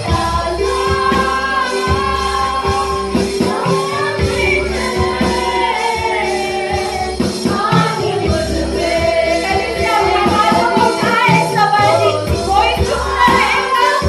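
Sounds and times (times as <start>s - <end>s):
band accompaniment with beat: 0.0s - 14.0s
group singing worship song: 0.0s - 14.0s.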